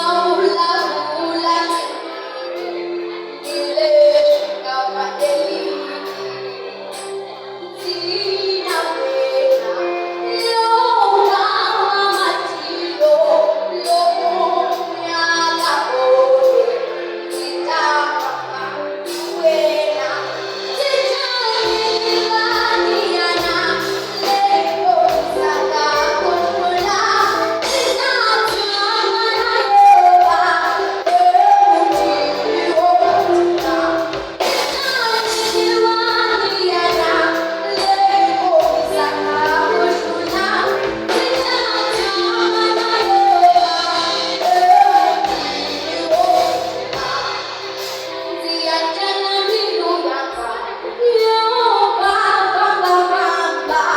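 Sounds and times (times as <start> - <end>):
children and woman singing: 0.0 - 53.9
musical accompaniment: 0.0 - 53.9.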